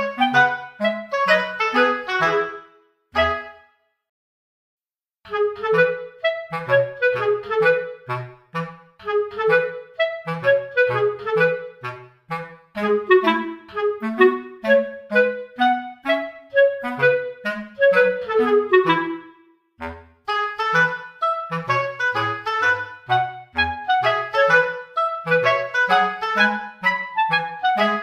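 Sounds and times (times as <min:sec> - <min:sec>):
bouncy instrumental tune: 0:00.0 - 0:03.8, 0:05.3 - 0:28.0.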